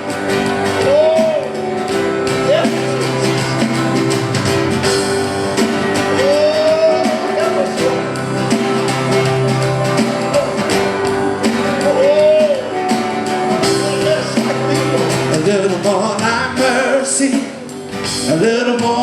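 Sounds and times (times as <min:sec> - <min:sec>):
guitar: 0:00.0 - 0:19.0
worship band playing: 0:00.0 - 0:19.0.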